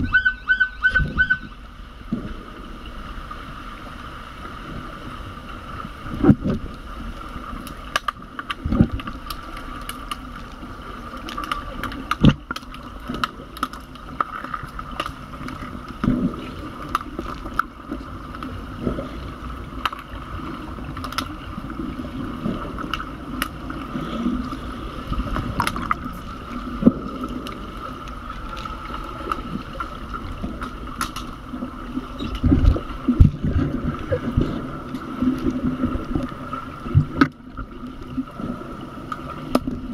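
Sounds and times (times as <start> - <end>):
muffled underwater hum: 0.0 - 39.9.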